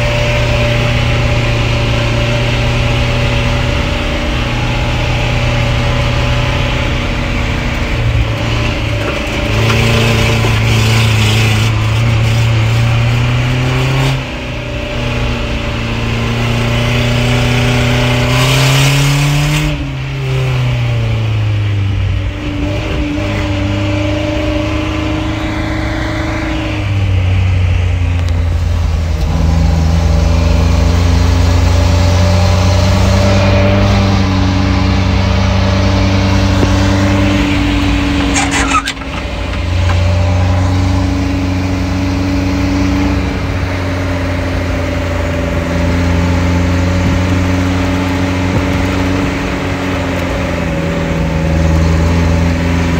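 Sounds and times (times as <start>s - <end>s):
off-road vehicle engine from inside cabin: 0.0s - 52.9s.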